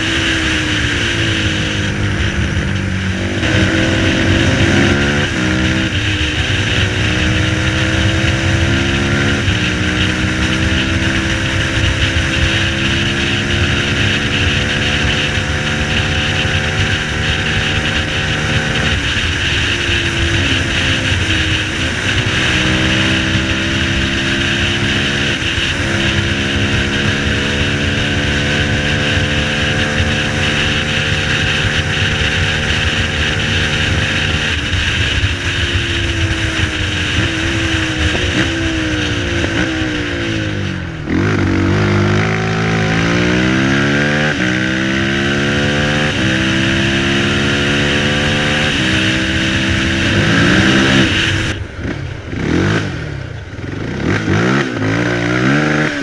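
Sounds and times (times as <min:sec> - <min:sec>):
quad engine shifting gears: 0:00.0 - 0:56.0.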